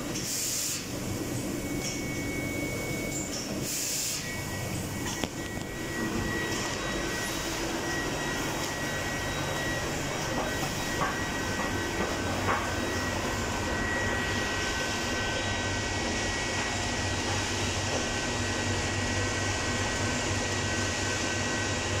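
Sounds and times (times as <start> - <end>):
machine hum with high whine: 0.0 - 22.0.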